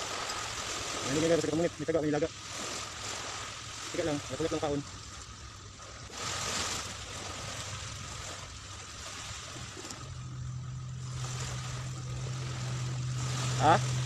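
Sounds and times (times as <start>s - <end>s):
low engine hum: 0.0s - 14.0s
small waves washing on shore: 0.0s - 14.0s.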